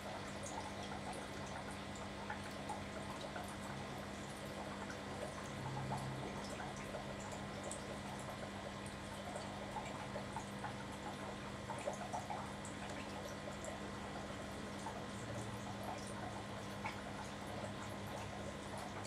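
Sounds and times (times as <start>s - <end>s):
aquarium water bubbling: 0.0s - 19.0s.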